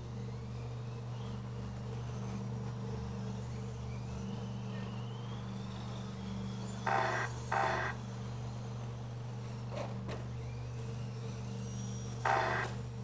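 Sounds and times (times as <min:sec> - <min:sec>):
electrical hum: 0:00.0 - 0:13.0
faint rising whine: 0:00.0 - 0:13.0.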